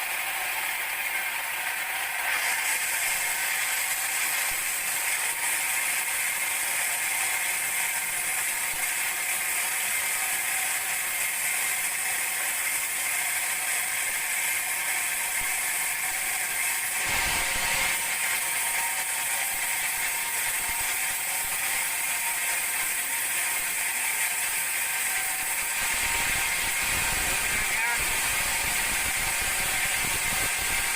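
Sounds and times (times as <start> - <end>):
band saw cutting log: 0.0 - 30.9.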